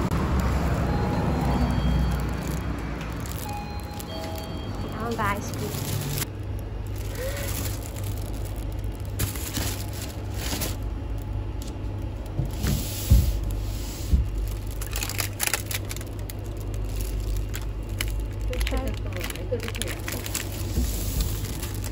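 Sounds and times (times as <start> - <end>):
plastic wrappers rustling: 0.0 - 21.9
steady low hum: 0.0 - 21.9.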